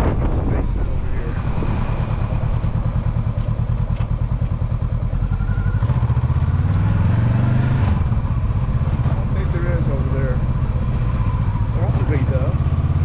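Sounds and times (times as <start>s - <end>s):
motorcycle engine riding along: 0.0s - 13.0s.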